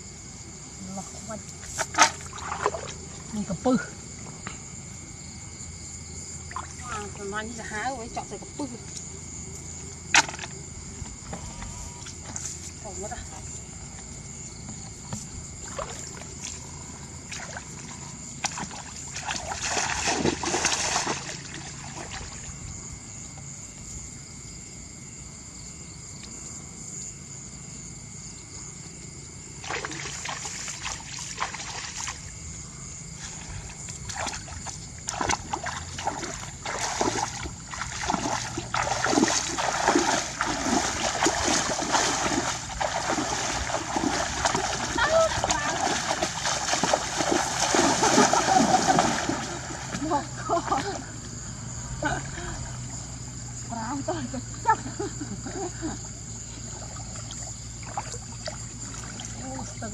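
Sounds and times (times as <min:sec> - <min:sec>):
water splashing and sloshing: 0:01.1 - 0:05.1, 0:05.7 - 0:23.6, 0:28.8 - 0:59.9.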